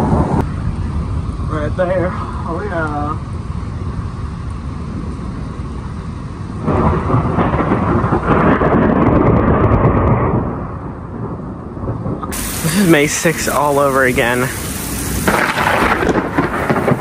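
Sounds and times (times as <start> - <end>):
steady rain: 0.0 - 17.0
thunder rolling: 0.0 - 17.0.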